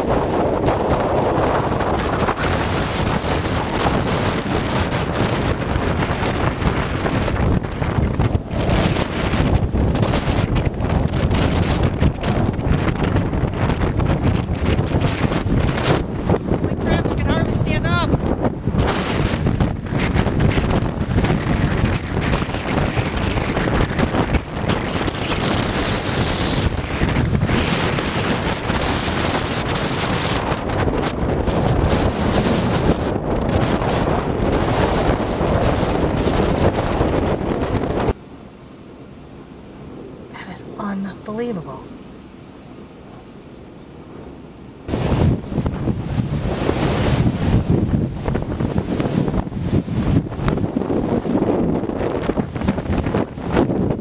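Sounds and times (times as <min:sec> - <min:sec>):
gale wind buffeting microphone: 0:00.0 - 0:54.0.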